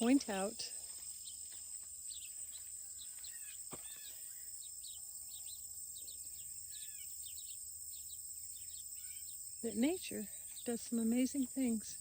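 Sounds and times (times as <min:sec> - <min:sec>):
crickets trilling: 0:00.0 - 0:12.0
small birds chirping: 0:00.0 - 0:12.0.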